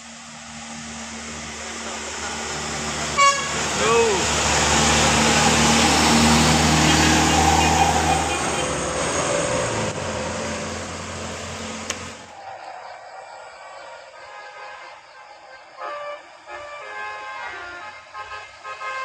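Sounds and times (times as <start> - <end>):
bus engine driving past: 0.0 - 16.7
road and tyre noise: 0.0 - 19.0.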